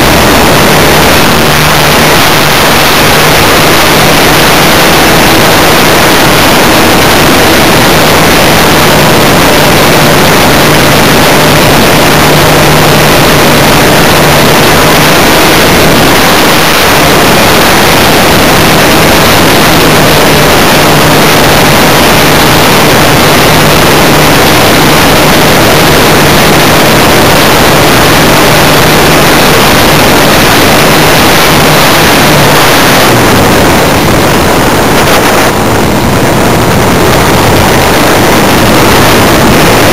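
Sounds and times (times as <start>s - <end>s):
model plane engine: 0.0s - 39.9s
wind rush on microphone: 0.0s - 39.9s.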